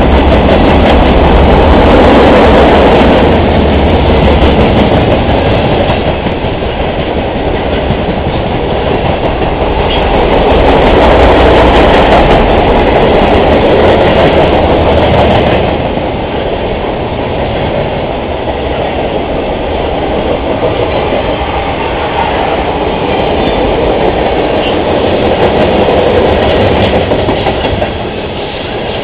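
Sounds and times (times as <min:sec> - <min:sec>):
freight train wheels rumbling on rail: 0:00.0 - 0:29.0.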